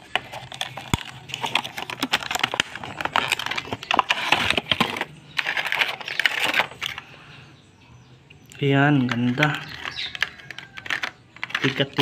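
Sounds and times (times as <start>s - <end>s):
plastic packaging crinkling: 0.0s - 7.1s, 9.0s - 12.0s.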